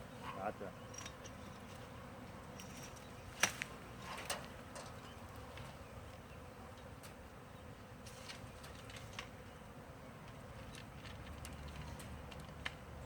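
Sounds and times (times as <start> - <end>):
bee swarm buzzing: 0.0 - 11.3.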